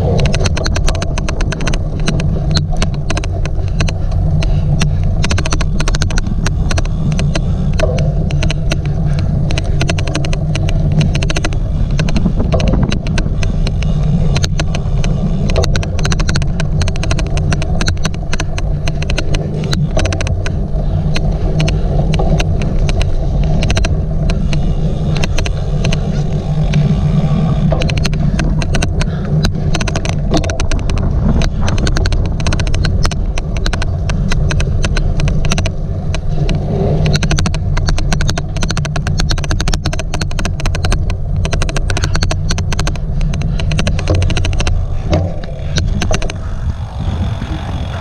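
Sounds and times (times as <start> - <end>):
sharp clicks from bike rig: 0.0 - 48.0
wind and tyres rumbling on mic: 0.0 - 48.0.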